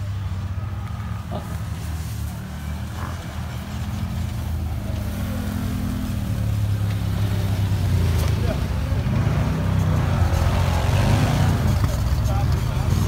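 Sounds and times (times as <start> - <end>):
off-road vehicle engines: 0.0 - 13.0.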